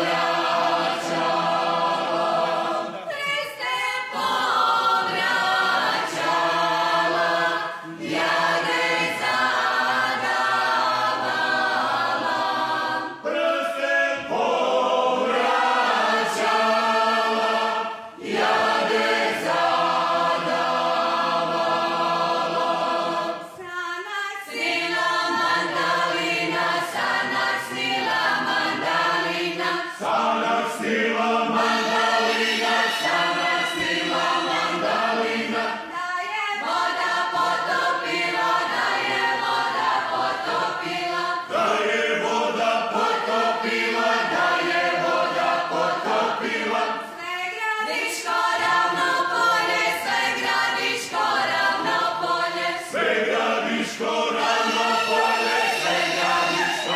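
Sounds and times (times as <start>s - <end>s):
men and women singing folk song: 0.0s - 56.9s.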